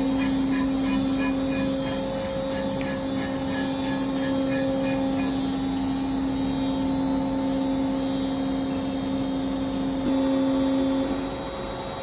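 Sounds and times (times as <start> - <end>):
machine tool humming: 0.0 - 12.0.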